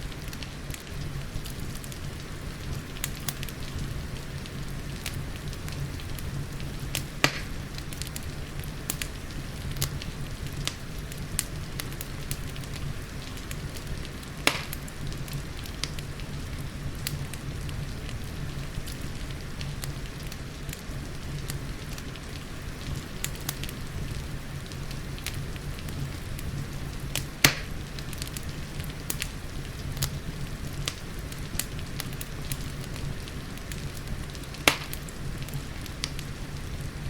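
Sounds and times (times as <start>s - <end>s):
rain hissing: 0.0s - 37.0s
wood fire crackling: 0.0s - 37.0s
sharp pops of fire: 0.1s - 37.0s.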